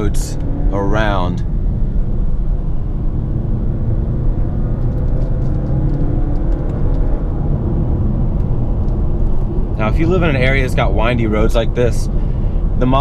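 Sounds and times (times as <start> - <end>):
car engine running: 0.0 - 13.0
road and tyre rumble: 0.0 - 13.0.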